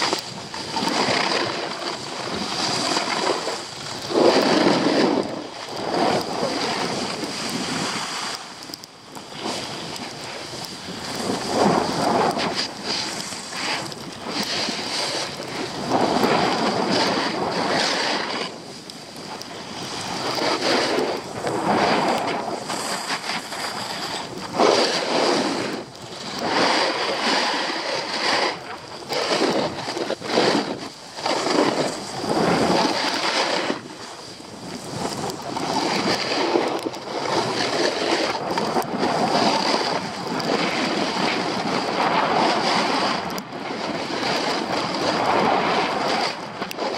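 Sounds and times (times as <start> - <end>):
skis scraping on snow: 0.0 - 46.9
wind rushing over microphone: 0.0 - 46.9.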